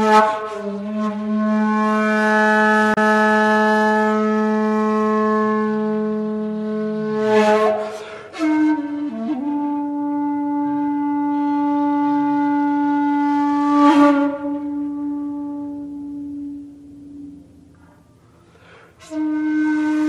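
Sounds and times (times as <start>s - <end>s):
bamboo flute notes: 0.0s - 20.0s.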